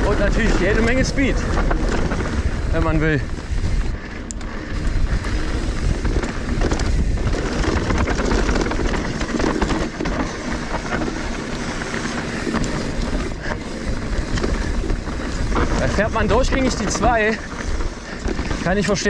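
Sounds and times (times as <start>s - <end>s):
bike rattling and clicking: 0.0s - 19.0s
bike tyres rumbling over dirt: 0.0s - 19.0s
wind on microphone: 0.0s - 19.0s.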